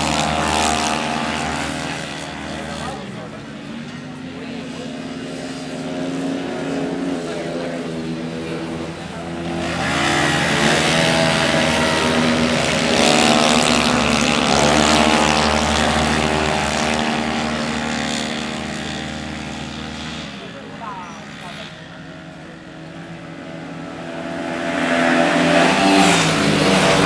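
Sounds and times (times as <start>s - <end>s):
racing motorcycle engines: 0.0s - 27.0s.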